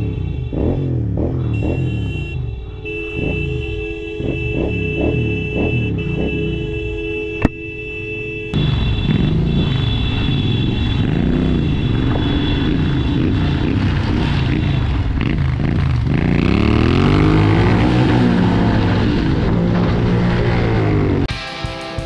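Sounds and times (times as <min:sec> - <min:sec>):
motorcycle engine revving: 0:00.0 - 0:07.5, 0:08.5 - 0:21.3.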